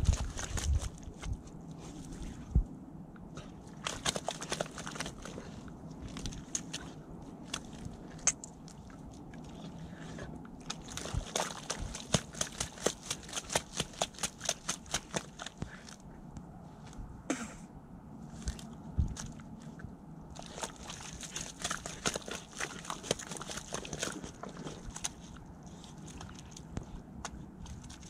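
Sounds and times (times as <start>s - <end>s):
puppy chewing crunches: 0.0s - 2.4s, 3.2s - 16.0s, 18.3s - 28.0s.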